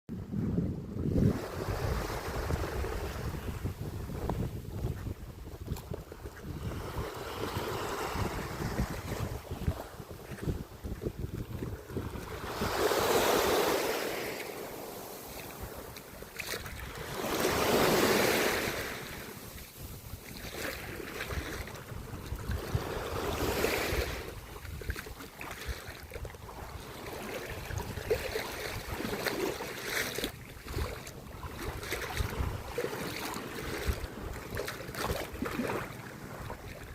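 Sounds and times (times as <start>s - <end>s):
wind buffeting microphone: 0.1s - 36.9s
sea waves washing in: 0.3s - 36.9s.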